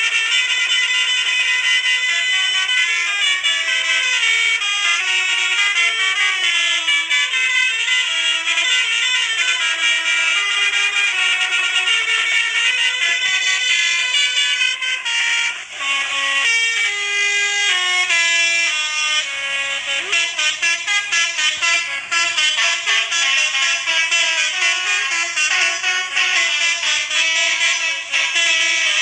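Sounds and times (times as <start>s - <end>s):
multi-tone air horn tune: 0.0s - 29.0s.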